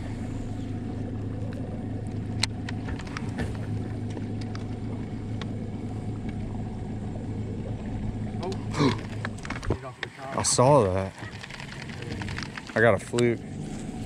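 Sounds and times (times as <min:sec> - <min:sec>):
trolling motor humming: 0:00.0 - 0:14.0.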